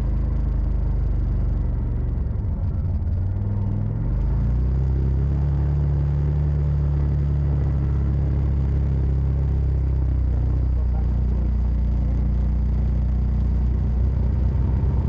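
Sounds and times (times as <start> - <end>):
engine low steady drone: 0.0 - 15.0.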